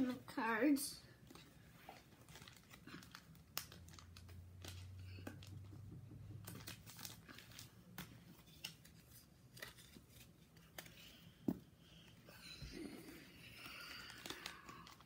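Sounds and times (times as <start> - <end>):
plastic sleeves crinkling: 1.2 - 11.2, 11.9 - 15.0.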